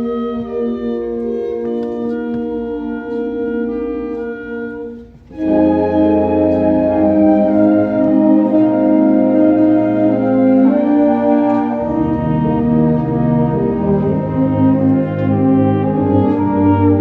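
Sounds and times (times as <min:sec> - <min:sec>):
ensemble playing held chords: 0:00.0 - 0:17.0.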